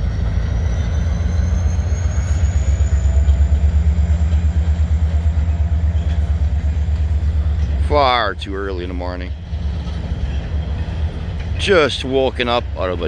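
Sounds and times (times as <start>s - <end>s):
freight train rumbling past: 0.0s - 13.0s
pulsing beat of passing cars: 0.0s - 13.0s.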